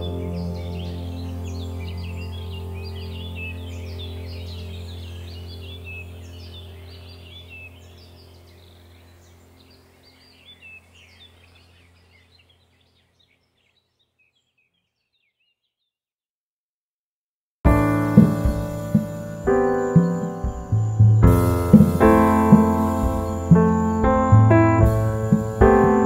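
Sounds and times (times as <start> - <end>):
birds chirping: 0.0 - 16.0, 17.7 - 26.0.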